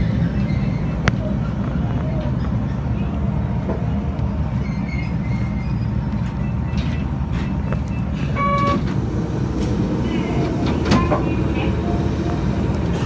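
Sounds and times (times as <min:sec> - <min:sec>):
train cab low rumble: 0:00.0 - 0:13.0.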